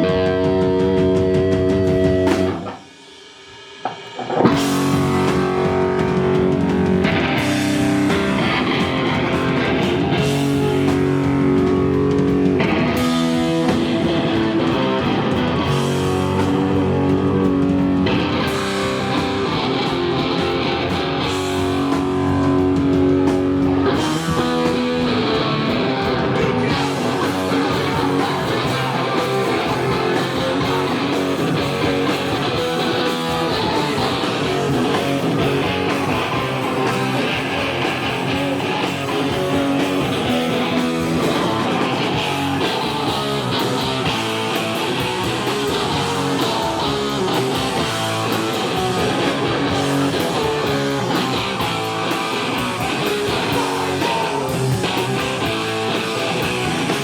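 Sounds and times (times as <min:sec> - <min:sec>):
electric guitars: 0:00.0 - 0:57.0
live rock band playing: 0:00.0 - 0:57.0.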